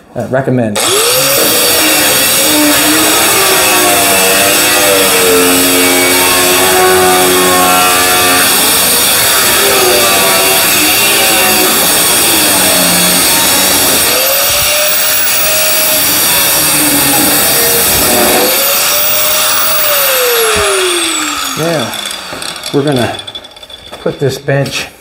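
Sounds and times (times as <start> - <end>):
angle grinder cutting metal: 0.8 - 24.4.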